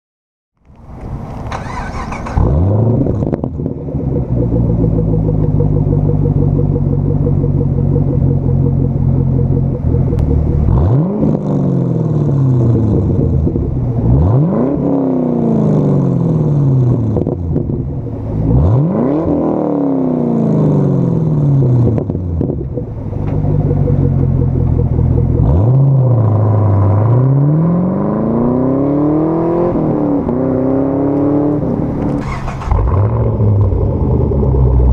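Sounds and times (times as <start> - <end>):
car engine starting and idling: 0.6 - 34.9
car engine revving: 1.3 - 34.9
car accelerating away: 1.4 - 34.9.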